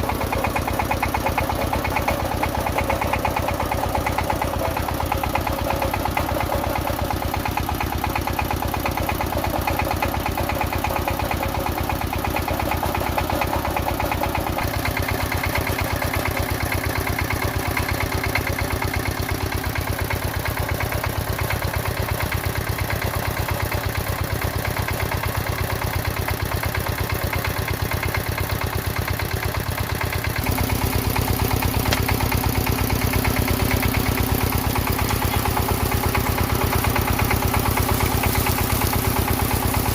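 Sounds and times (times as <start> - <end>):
boring rig engine running: 0.0 - 39.9.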